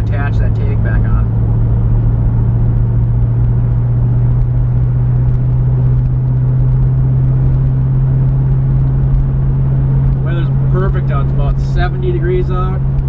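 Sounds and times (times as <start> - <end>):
car engine droning: 0.0 - 13.0
road rumble: 0.0 - 13.0.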